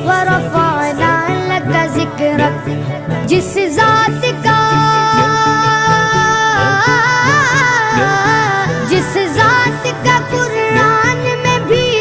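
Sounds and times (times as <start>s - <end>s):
person singing devotional song: 0.0s - 12.0s.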